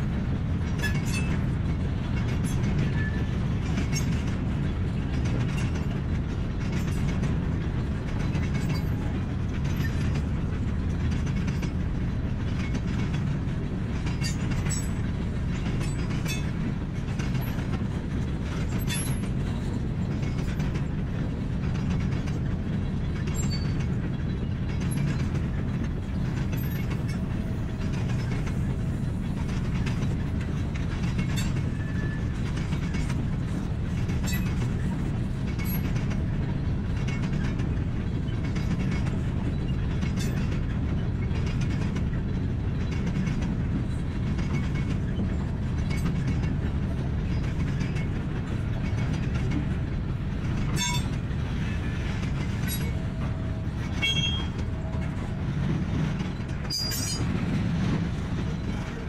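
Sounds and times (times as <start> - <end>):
freight car wheels rumbling on rail: 0.0 - 59.0.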